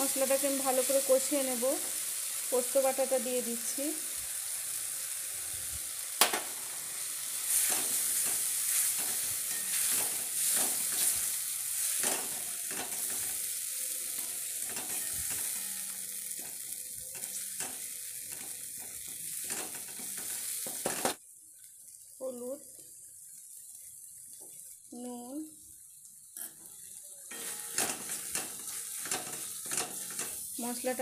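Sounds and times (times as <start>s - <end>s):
paste sizzling in oil: 0.0s - 31.0s.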